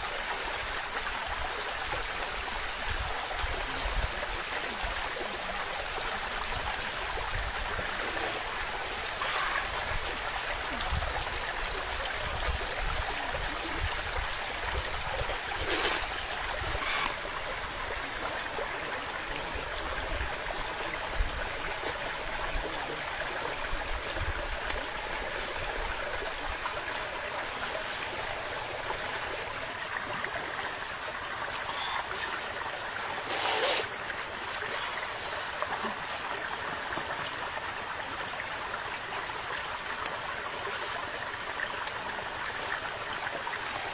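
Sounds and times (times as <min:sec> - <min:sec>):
stream rushing: 0:00.0 - 0:43.9.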